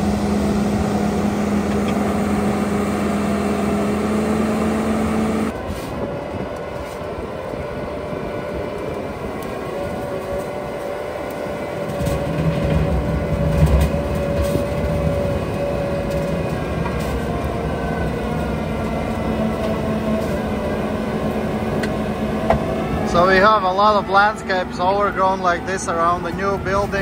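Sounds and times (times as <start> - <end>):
diesel engine and rotor running: 0.0 - 27.0
heavy low rumble: 0.0 - 27.0.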